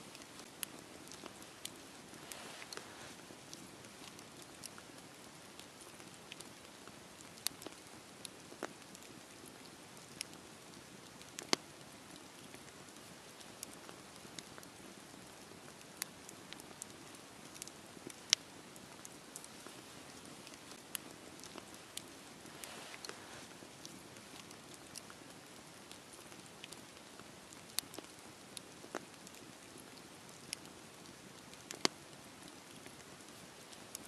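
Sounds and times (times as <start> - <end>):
campfire flames hissing: 0.0 - 34.0
fire crackles and pops: 0.0 - 34.0.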